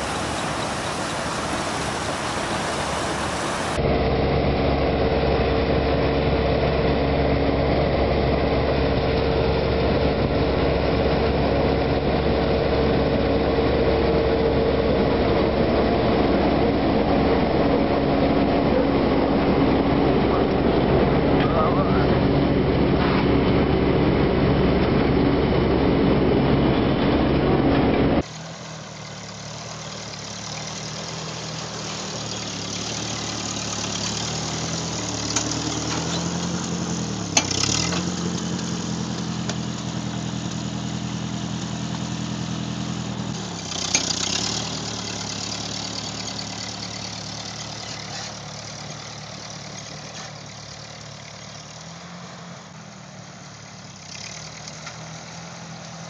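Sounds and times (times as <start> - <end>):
heavy farm machinery running: 0.0 - 54.0
tractor engine running: 0.0 - 56.0.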